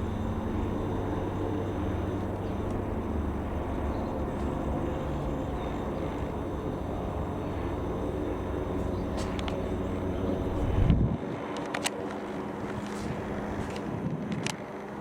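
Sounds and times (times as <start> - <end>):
aircraft engine droning: 0.0 - 15.0.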